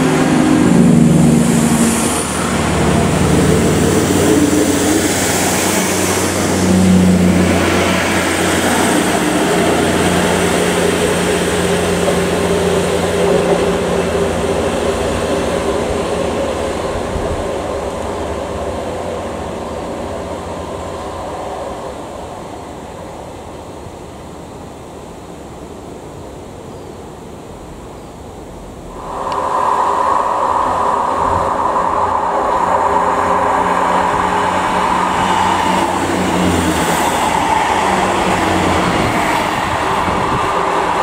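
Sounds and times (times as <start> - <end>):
diesel train engines humming: 0.0 - 41.0.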